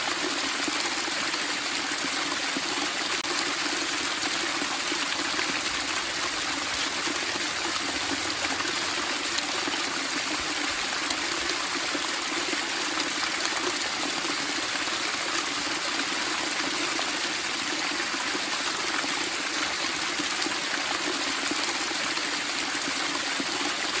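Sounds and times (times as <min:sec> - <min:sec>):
running water splashing: 0:00.0 - 0:20.0.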